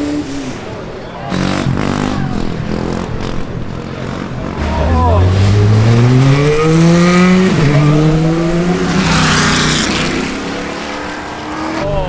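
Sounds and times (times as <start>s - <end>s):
car engine accelerating: 0.0s - 12.0s
second car accelerating: 0.0s - 12.0s.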